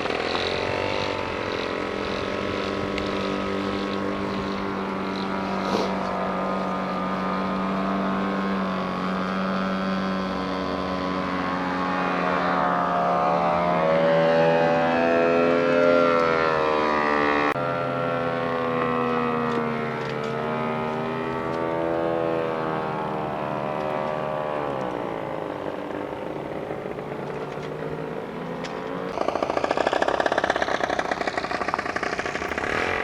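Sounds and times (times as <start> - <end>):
model airplane engine running: 0.0 - 33.0.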